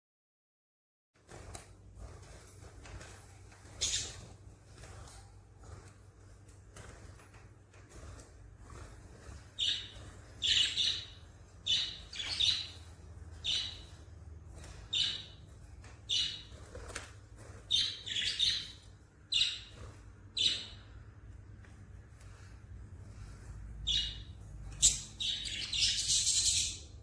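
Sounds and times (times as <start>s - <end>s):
birds chirping: 2.0s - 27.0s.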